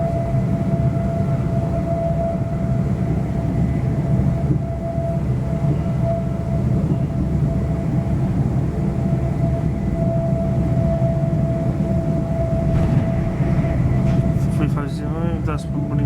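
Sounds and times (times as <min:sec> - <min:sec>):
train high whine: 0:00.0 - 0:16.0
wheels rumbling on track: 0:00.0 - 0:16.0.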